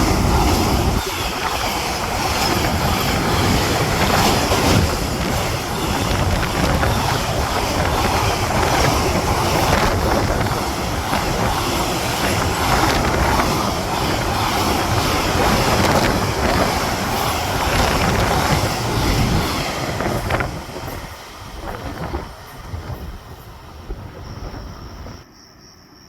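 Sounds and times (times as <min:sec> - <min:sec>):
rail joint clicks: 0:00.0 - 0:25.3
train wheels rushing on track: 0:00.0 - 0:25.3.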